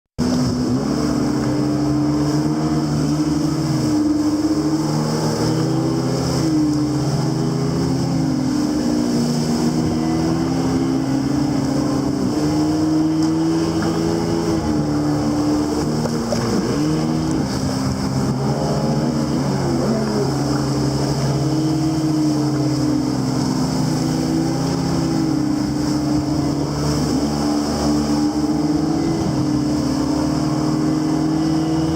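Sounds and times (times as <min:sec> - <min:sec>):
jet ski engine revving: 0:00.2 - 0:31.9.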